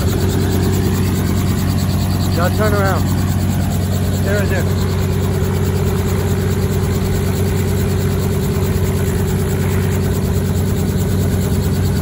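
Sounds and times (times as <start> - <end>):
helicopter engine idling: 0.0 - 12.0
helicopter rotor turning: 0.0 - 12.0.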